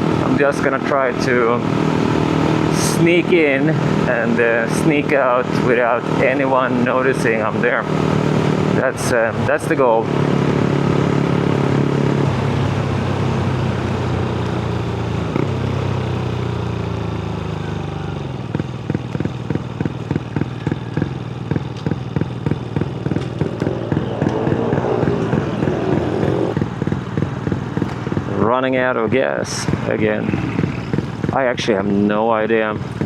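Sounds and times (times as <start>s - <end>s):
motorcycle engine with loud exhaust: 0.0s - 33.0s.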